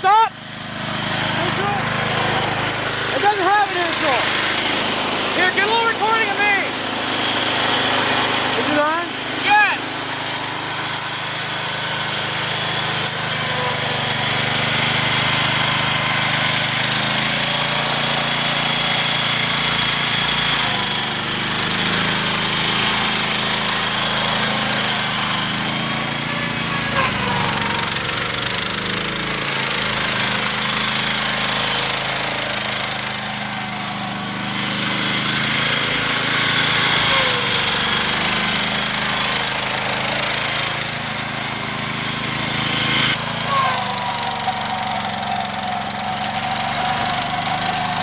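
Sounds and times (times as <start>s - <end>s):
garden tractor engine running: 0.0s - 48.0s.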